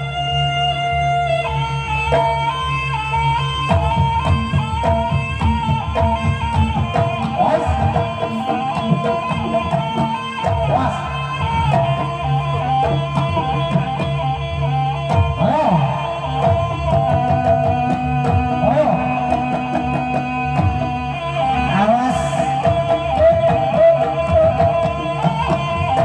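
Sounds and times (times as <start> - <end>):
gamelan drum strokes: 0.0 - 26.0
long steady low tones: 0.0 - 26.0
wavering melody line: 3.7 - 26.0.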